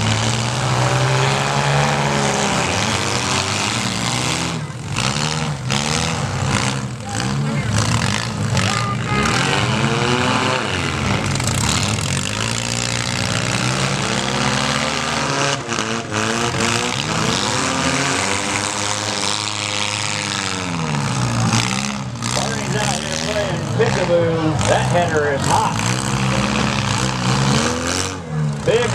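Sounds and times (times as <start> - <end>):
background engines: 0.0 - 28.9
car engines revving: 0.0 - 28.9.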